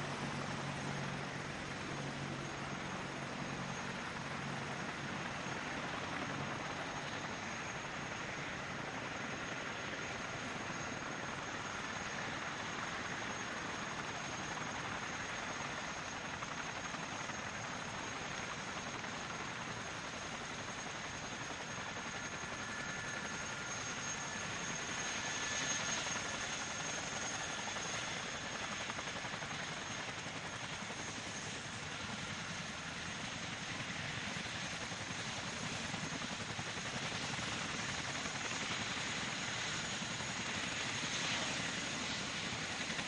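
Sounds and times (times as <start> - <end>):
helicopter rotor noise: 0.0 - 43.0.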